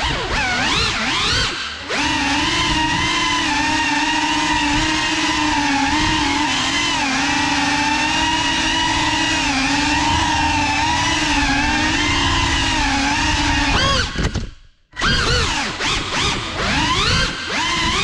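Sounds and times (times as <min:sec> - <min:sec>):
drone buzzing whine: 0:00.0 - 0:18.0.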